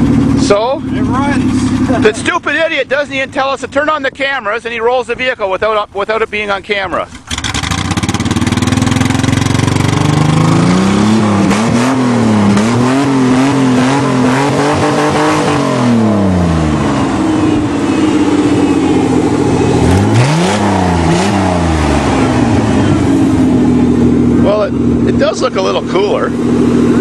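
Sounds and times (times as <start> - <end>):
pickup truck engine revving: 0.0 - 4.3, 7.1 - 27.0.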